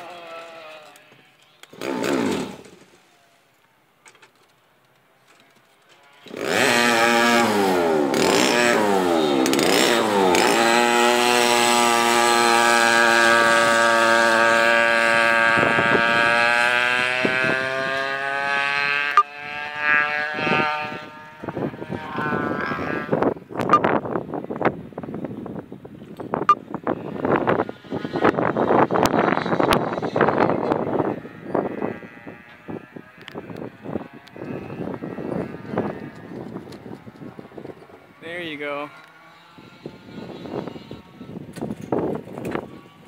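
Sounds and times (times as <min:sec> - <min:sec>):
go-kart engine revving: 0:00.0 - 0:01.0, 0:01.6 - 0:03.0, 0:06.2 - 0:23.4, 0:27.0 - 0:43.0.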